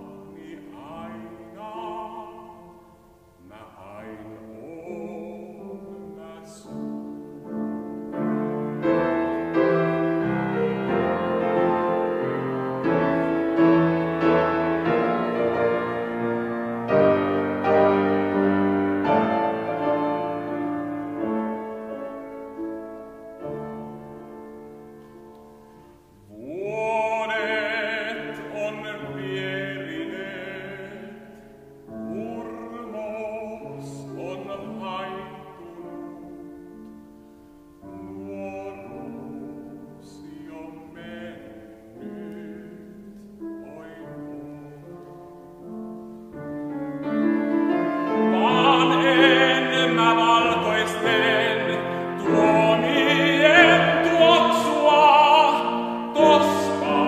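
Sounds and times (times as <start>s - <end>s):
man singing opera: 0.0s - 25.1s, 26.0s - 46.3s, 47.0s - 57.0s
grand piano: 0.0s - 57.0s.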